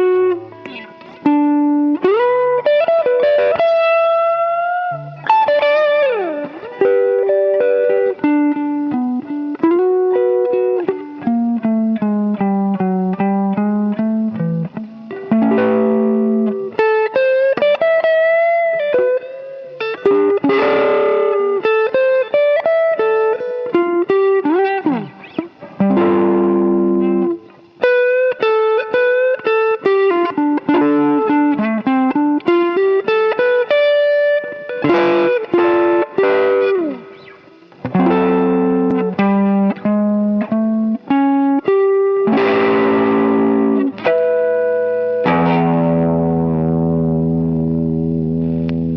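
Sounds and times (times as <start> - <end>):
electric guitar blues licks: 0.0 - 48.9
guitar chords strummed: 0.0 - 48.9.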